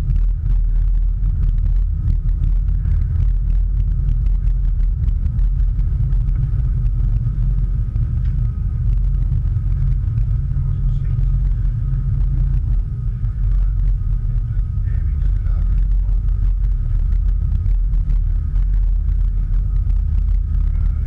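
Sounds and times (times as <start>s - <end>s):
boat engines rumbling: 0.0s - 21.0s
faint steady whine: 0.0s - 21.0s.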